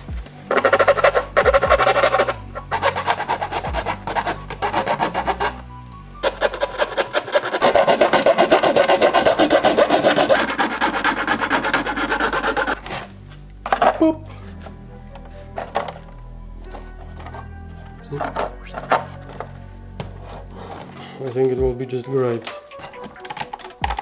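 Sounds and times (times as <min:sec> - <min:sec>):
tool scraping hard plastic: 0:00.0 - 0:05.6, 0:06.2 - 0:24.0.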